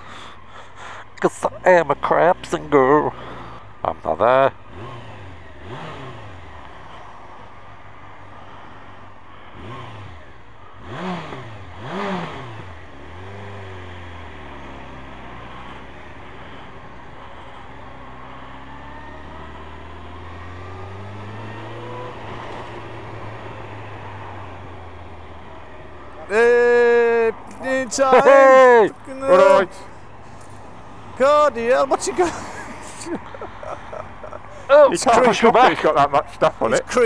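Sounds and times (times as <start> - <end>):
motorcycle engine revving: 4.5 - 6.9, 9.5 - 37.0.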